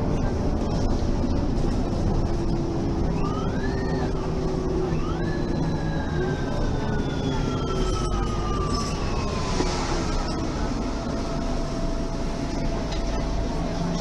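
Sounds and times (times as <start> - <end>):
bus engine drone: 0.0 - 14.0.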